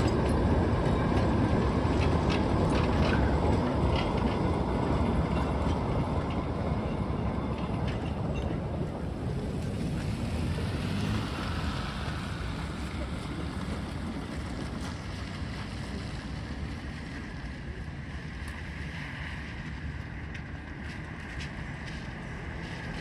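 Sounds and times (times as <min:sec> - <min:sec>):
steam train rumbling: 0:00.0 - 0:23.0.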